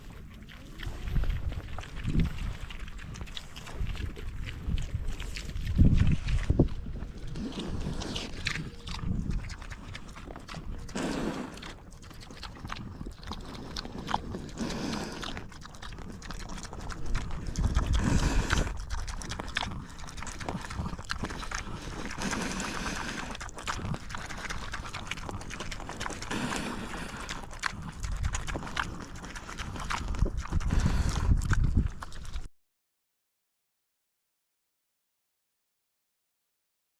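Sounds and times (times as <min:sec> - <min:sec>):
pig low call: 0:00.0 - 0:32.5
pigs munching feed: 0:00.0 - 0:32.5.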